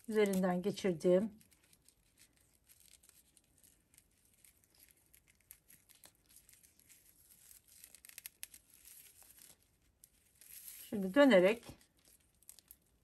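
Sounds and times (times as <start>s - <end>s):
paper cord crinkling and rustling: 0.0s - 13.0s
sharp paper crackles: 0.0s - 13.0s.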